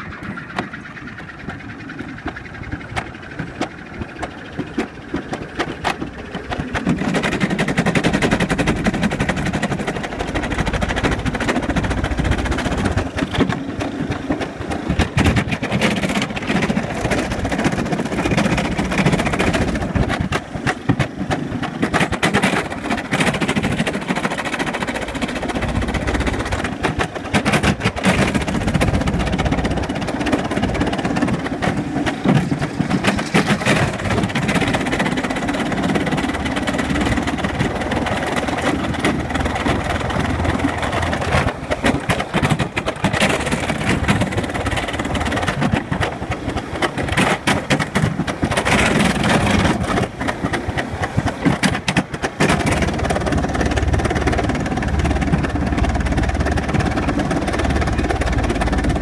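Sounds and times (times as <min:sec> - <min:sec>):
bobsled rattling down steel track: 0:00.0 - 0:59.0.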